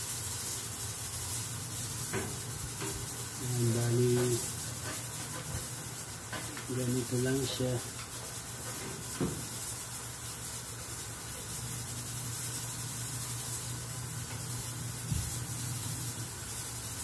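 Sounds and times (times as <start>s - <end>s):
steady low hum and hiss: 0.0s - 17.0s.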